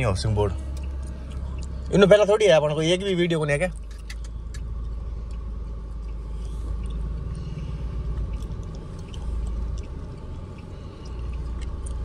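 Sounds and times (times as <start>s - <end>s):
engine and road noise in car: 0.0s - 12.0s.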